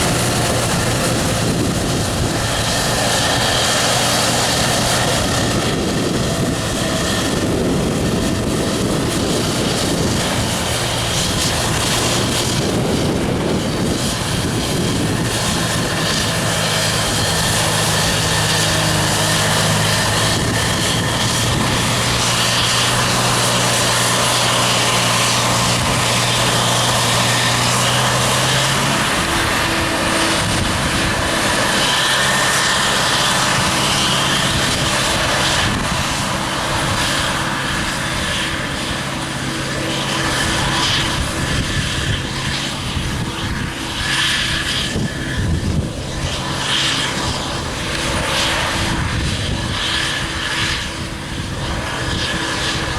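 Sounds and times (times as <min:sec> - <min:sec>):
forage harvester engine drone: 0:00.0 - 0:52.9.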